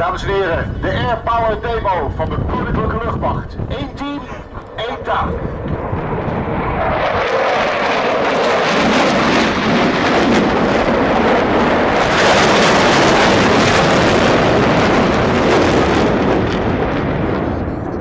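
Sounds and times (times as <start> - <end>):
fighter jets roaring past: 0.0 - 18.0.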